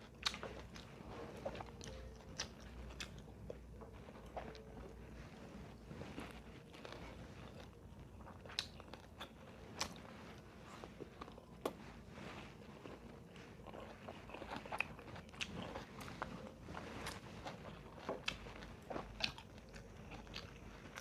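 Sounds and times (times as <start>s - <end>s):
person chewing crunchy food: 0.0s - 21.0s.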